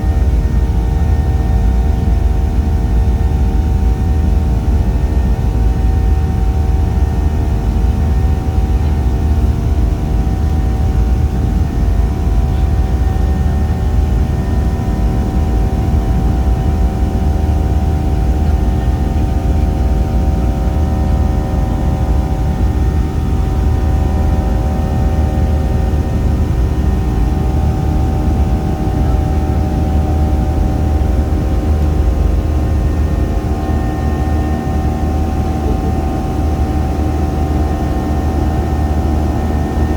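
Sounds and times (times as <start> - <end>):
airliner engines running: 0.0 - 39.9.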